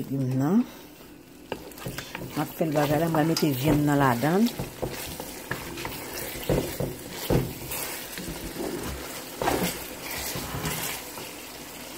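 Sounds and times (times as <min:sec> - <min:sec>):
wet sizzle of cooking sauce: 0:00.5 - 0:11.9
spoon stirring sauce: 0:01.4 - 0:11.6.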